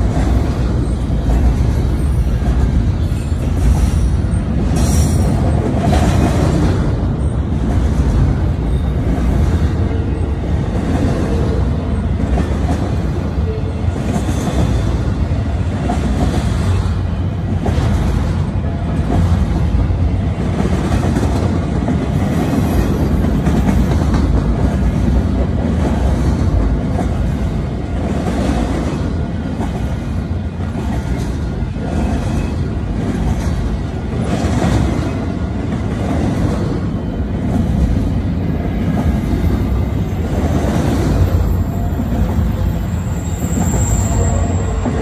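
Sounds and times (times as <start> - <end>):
freight train rumbling: 0.0 - 45.0
wheels clattering on rails: 0.0 - 45.0.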